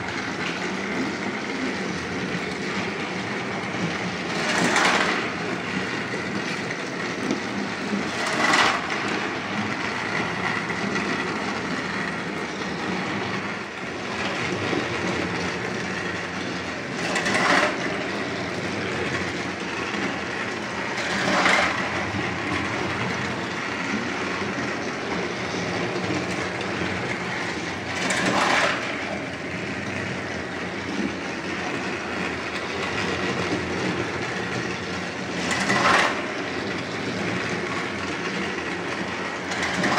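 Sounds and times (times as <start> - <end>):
toy train wheels rattling: 2.7 - 39.9
toy train motor whir: 4.3 - 24.8, 25.6 - 30.6, 31.4 - 39.9.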